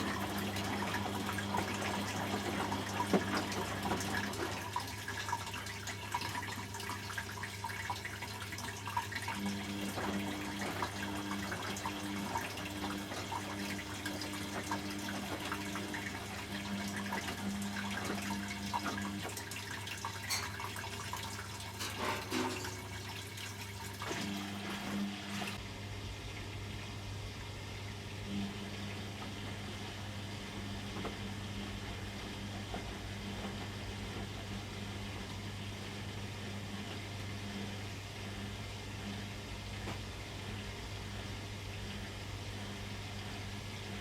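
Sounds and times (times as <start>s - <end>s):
washing machine water rushing: 0.0s - 44.0s.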